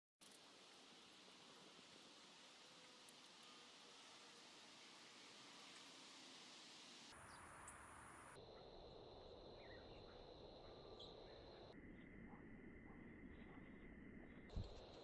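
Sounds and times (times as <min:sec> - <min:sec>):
faint chirps: 0:00.4 - 0:15.0.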